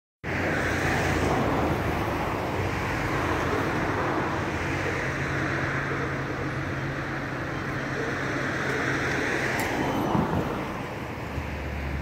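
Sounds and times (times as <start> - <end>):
vehicle engines idling: 0.2 - 12.0.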